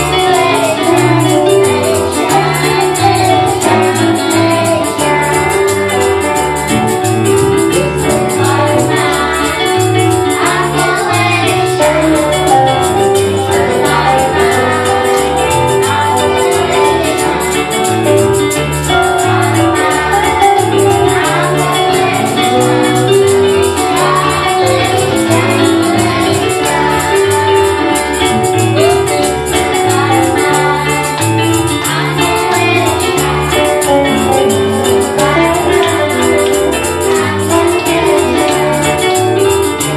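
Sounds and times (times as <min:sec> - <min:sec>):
gospel music with singing: 0:00.0 - 0:39.9
tambourine shaking: 0:00.0 - 0:39.9.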